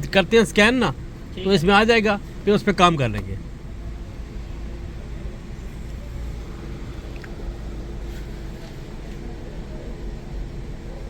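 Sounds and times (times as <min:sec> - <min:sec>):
car engine idling and misfiring: 0:00.0 - 0:11.0.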